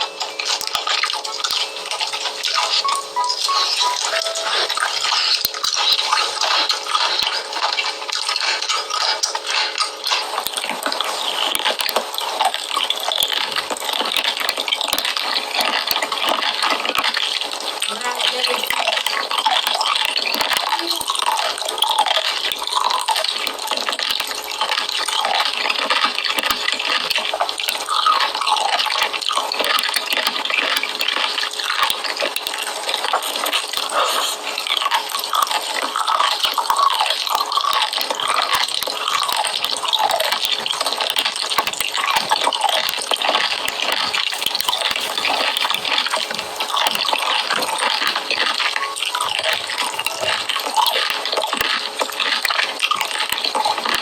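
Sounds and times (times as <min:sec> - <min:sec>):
wet chewing and slurping: 0:00.0 - 0:54.0.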